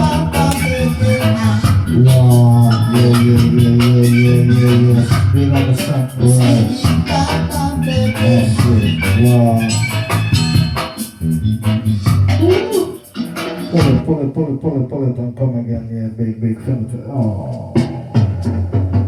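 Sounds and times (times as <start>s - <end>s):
reggae music with bass and organ: 0.0s - 15.0s, 16.7s - 19.0s.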